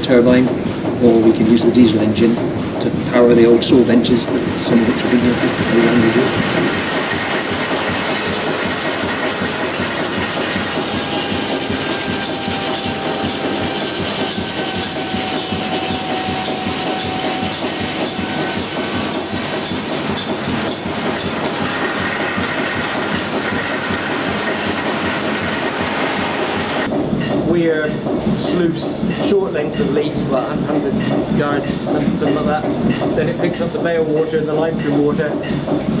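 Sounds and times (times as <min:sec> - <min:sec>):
sawmill machinery clattering: 0:00.0 - 0:36.0.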